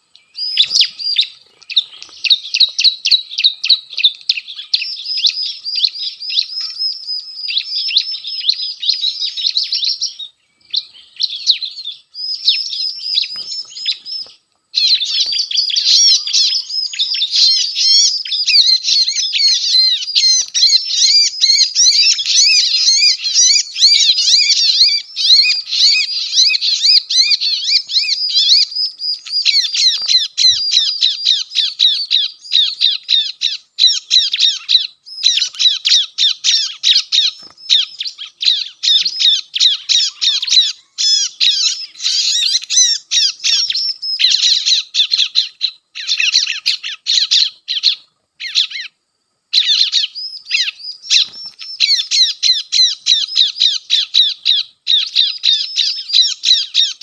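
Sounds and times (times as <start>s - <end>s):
bird calls from a speaker: 0.0s - 57.0s.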